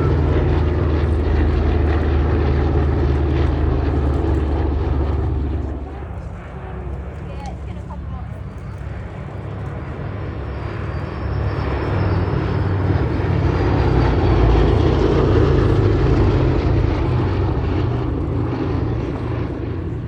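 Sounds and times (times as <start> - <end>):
propeller planes droning past: 0.0 - 20.0.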